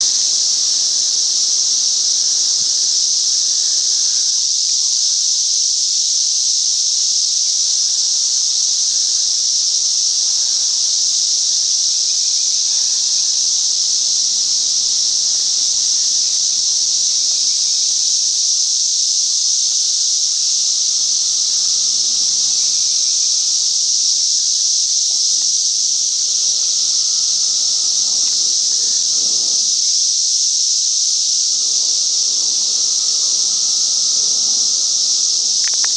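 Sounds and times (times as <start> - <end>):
cicadas droning: 0.0 - 35.9.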